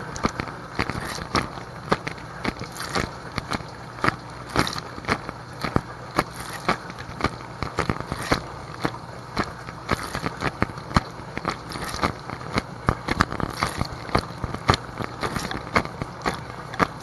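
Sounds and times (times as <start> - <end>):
dishwasher low hum: 0.0 - 17.0
water jets splashing on plastic: 0.0 - 17.0.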